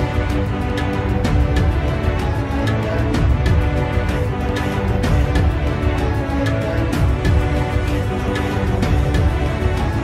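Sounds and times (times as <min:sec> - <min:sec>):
music with pulsing low beat: 0:00.0 - 0:10.0.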